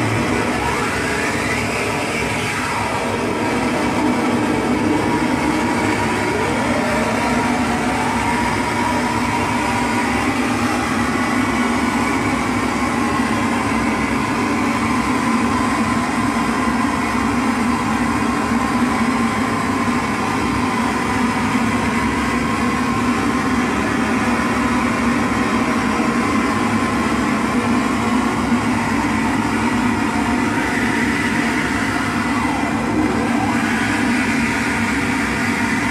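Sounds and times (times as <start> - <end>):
droning electronic noise music: 0.0 - 35.9
low hum: 0.0 - 35.9.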